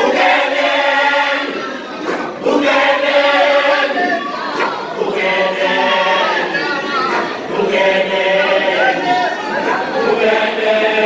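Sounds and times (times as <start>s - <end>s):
a cappella group singing harmony: 0.0s - 11.0s.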